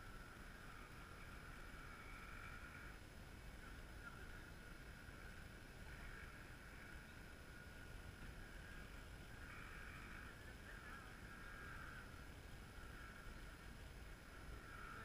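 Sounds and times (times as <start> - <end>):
background hiss: 0.0 - 15.0
faint high hum: 0.0 - 15.0.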